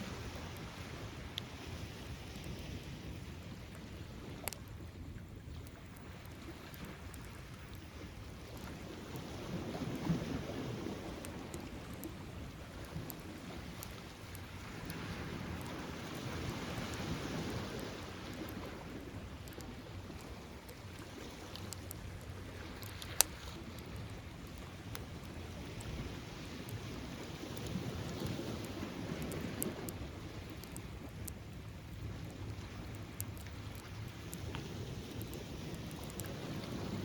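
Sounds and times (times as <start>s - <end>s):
bonfire crackling and popping: 0.0s - 37.0s
surf washing: 0.0s - 37.0s.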